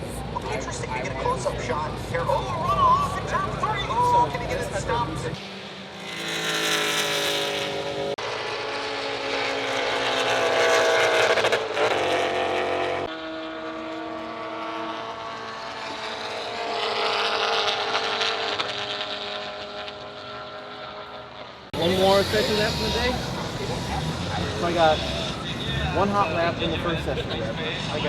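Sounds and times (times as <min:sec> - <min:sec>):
race car engine revving: 0:03.3 - 0:28.0.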